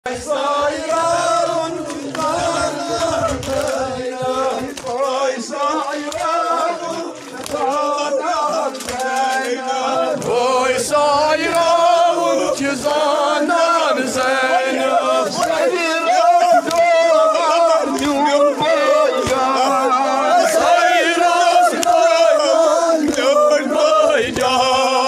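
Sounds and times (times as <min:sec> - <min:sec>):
man chanting a lament: 0:01.2 - 0:25.0.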